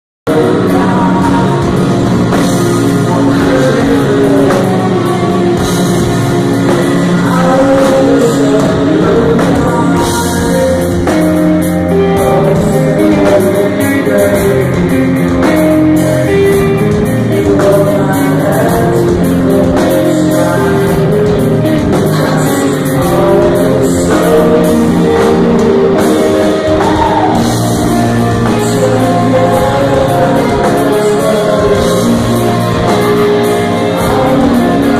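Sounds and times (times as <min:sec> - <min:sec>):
drum kit: 0:00.3 - 0:34.9
electric guitars: 0:00.3 - 0:34.9
man singing into a microphone: 0:00.3 - 0:34.9.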